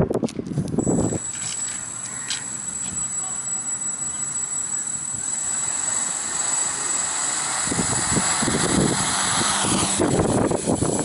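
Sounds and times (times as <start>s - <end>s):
drone motors whining: 0.8s - 11.0s.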